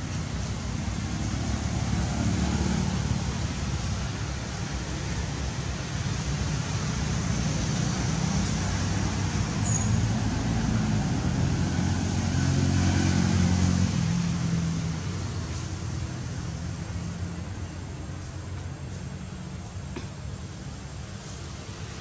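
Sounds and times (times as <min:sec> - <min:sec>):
steady hiss: 0:00.0 - 0:11.5, 0:13.9 - 0:22.0
vehicle engine humming: 0:00.0 - 0:22.0.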